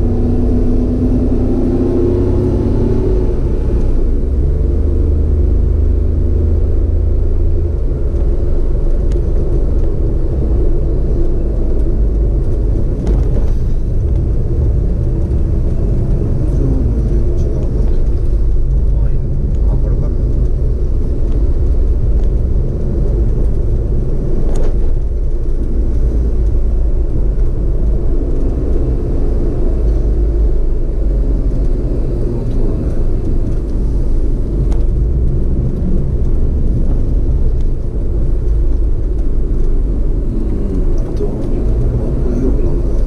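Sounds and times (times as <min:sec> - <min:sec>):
vehicle engine and tyre rumble: 0:00.0 - 0:43.0.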